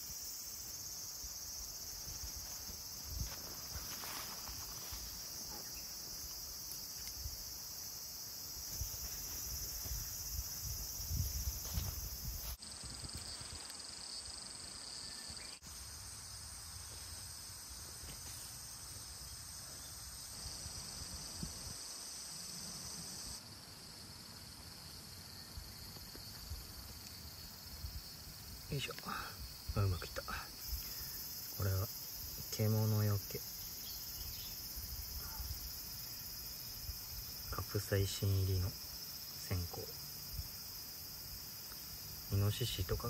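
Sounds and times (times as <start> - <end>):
high insect chorus: 0.0 - 43.0.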